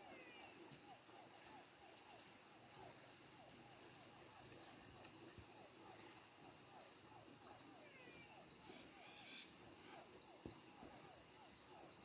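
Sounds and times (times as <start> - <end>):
insects trilling: 0.0 - 12.0
short lower insect calls: 0.0 - 12.0.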